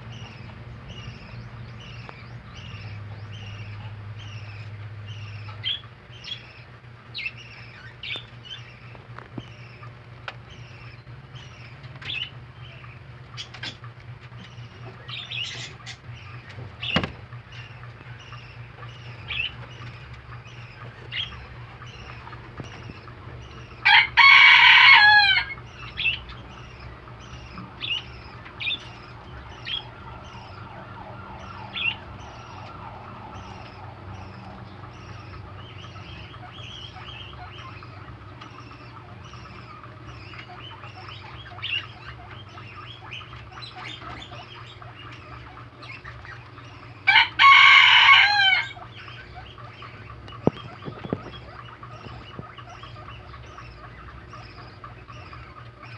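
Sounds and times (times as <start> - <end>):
loud long bird calls: 0.0 - 55.9
steady low hum: 0.0 - 55.9.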